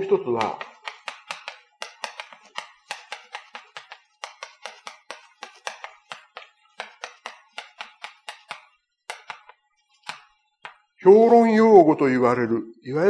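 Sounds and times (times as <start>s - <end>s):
chalk writing on a blackboard: 0.4s - 11.0s.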